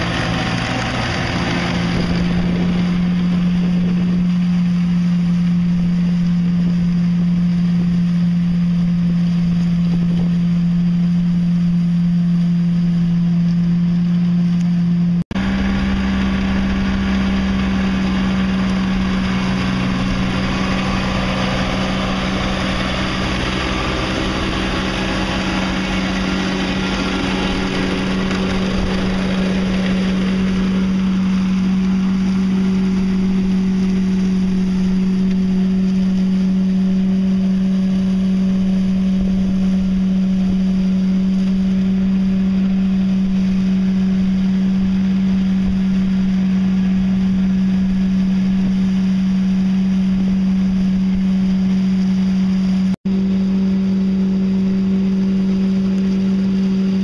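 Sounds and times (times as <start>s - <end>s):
tractor and flail mower running: 0.0s - 57.0s.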